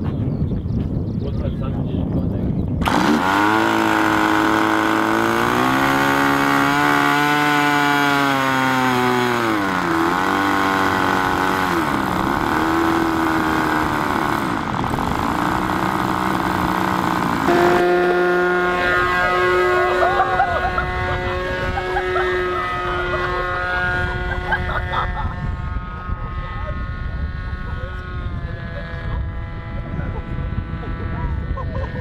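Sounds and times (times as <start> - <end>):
model aircraft engine running: 2.4 - 32.0.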